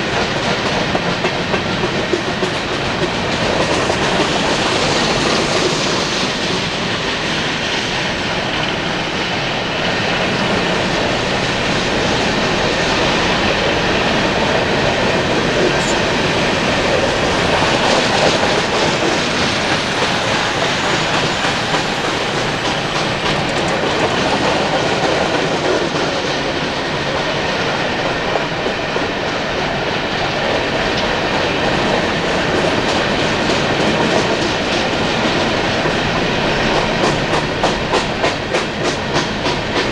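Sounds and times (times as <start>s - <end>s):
train cars rumbling past: 0.0s - 39.9s
wheels clicking over rails: 0.0s - 39.9s.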